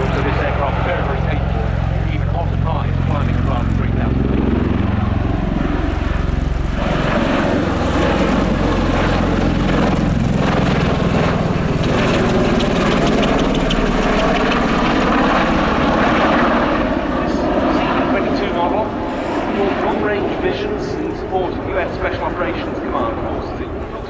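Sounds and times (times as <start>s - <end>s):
tiltrotor aircraft drone: 0.0s - 24.0s.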